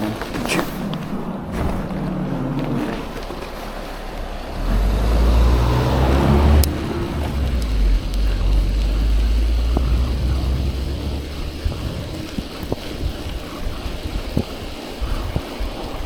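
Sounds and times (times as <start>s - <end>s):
vehicle passing by: 0.0s - 13.3s
wind rumble on microphone: 0.0s - 16.0s.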